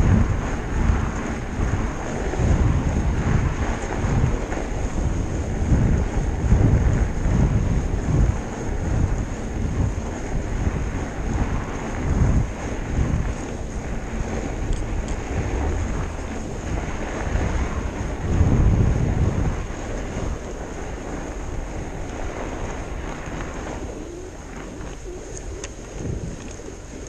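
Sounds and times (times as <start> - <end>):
bike tyres rolling on snow: 0.0 - 27.0
wind buffeting microphone: 0.0 - 27.0.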